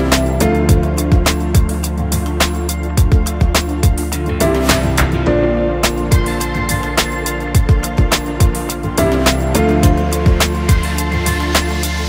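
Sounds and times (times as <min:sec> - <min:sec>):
music with kick drums: 0:00.0 - 0:11.8.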